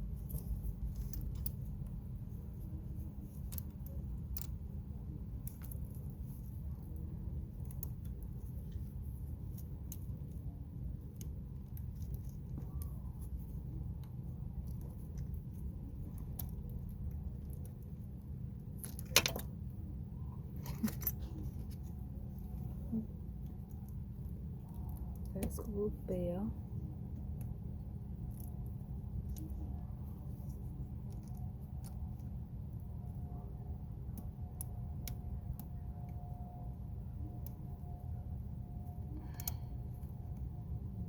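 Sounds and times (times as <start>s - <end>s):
steady low rumble: 0.0s - 41.0s.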